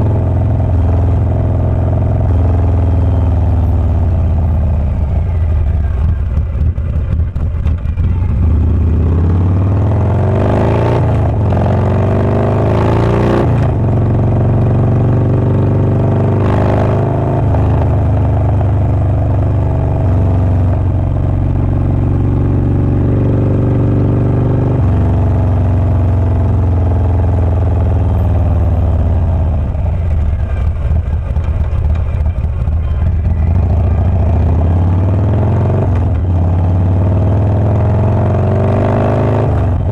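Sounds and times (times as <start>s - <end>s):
motorcycle engine revving under load: 0.0s - 39.9s.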